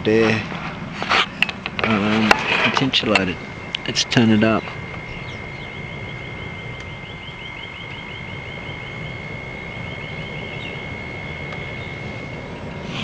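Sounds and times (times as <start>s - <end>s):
fan air rush and whine: 0.0s - 13.0s
faint chirping: 1.3s - 13.0s.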